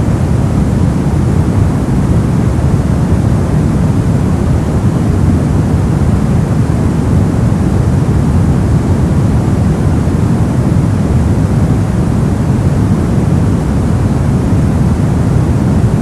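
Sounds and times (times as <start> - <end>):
brown noise hiss: 0.0 - 16.0.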